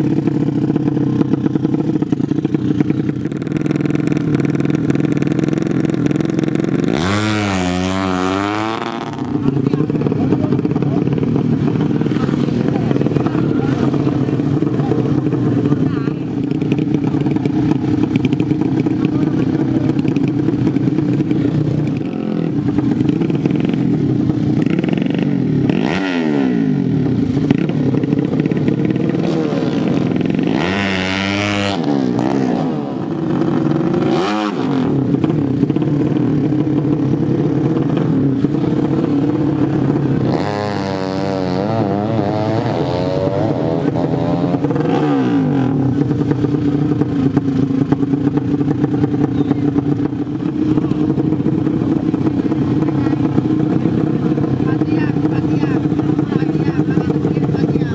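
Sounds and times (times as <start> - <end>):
motorcycle engine idling: 0.0 - 57.9
motorcycle throttle blips: 0.0 - 57.9.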